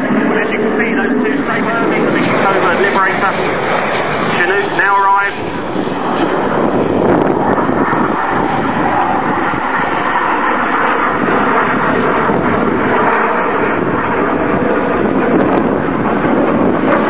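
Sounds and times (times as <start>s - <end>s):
helicopter rotors and engines: 0.0s - 17.0s.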